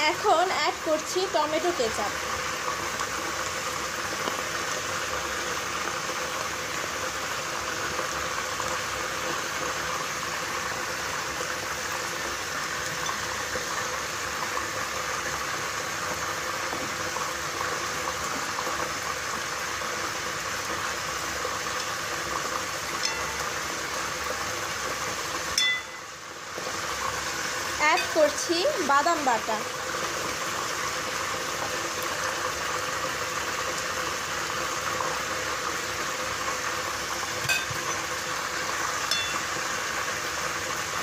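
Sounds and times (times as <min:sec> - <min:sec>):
masala sizzling in oil: 0:00.0 - 0:41.0.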